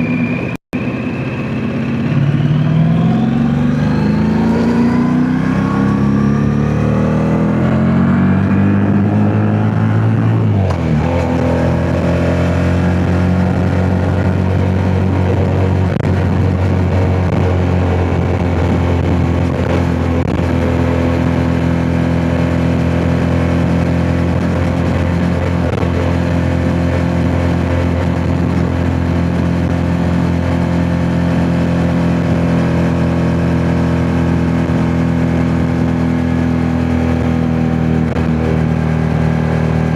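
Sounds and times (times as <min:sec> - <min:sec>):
motorcycle engine: 0:00.0 - 0:39.9
wind noise on microphone: 0:01.2 - 0:39.9.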